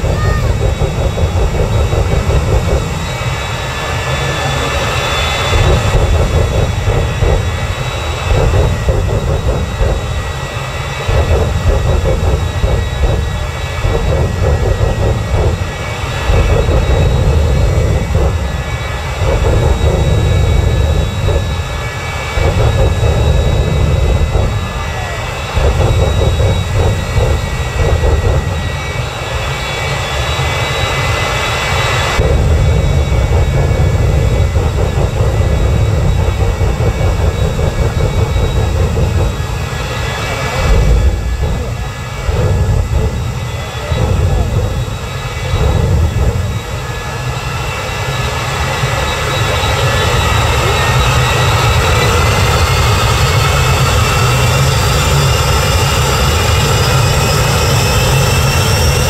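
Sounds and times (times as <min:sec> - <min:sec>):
jet engine whine and rumble: 0:00.0 - 0:59.0.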